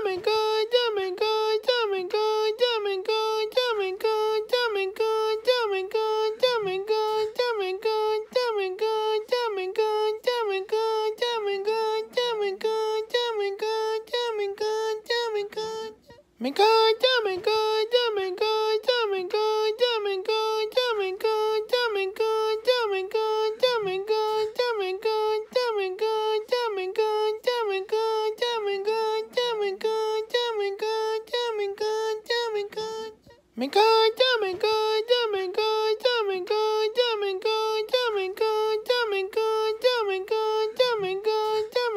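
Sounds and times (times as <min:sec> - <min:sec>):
high voice singing repeated phrase: 0:00.0 - 0:41.9.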